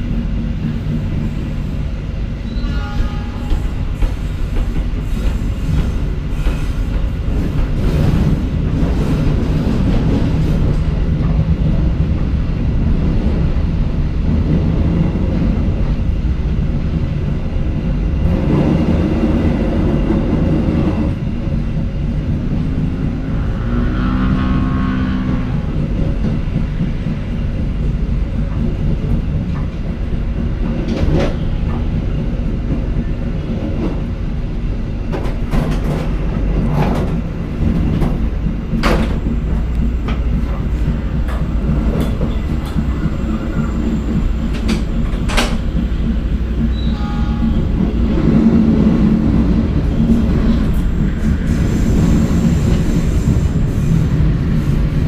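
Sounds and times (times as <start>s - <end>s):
train wheel-on-rail rumble: 0.0s - 55.0s.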